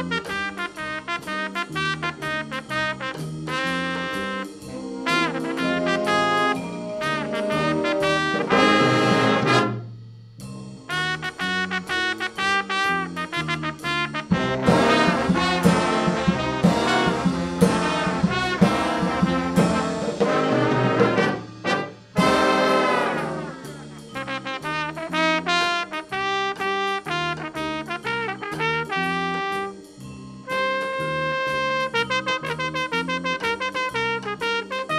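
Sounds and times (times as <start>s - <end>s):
brass band playing lively tune: 0.0s - 9.9s, 10.9s - 34.9s.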